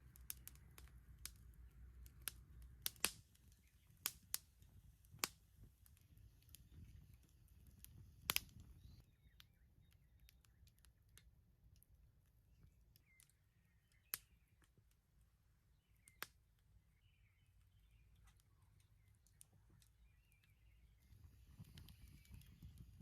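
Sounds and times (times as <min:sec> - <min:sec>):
sharp fire snaps: 0:00.0 - 0:23.0
wood fire crackling: 0:00.0 - 0:23.0.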